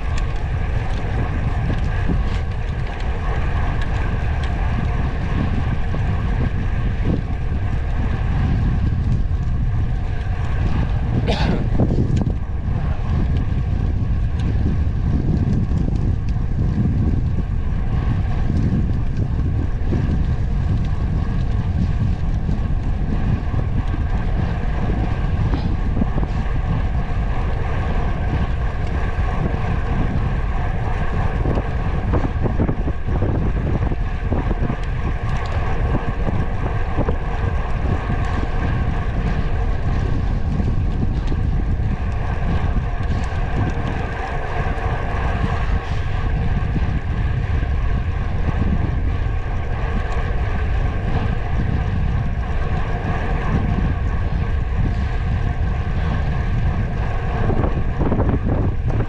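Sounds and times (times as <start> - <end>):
road noise: 0.0 - 59.0
wind rushing over microphone: 0.0 - 59.0.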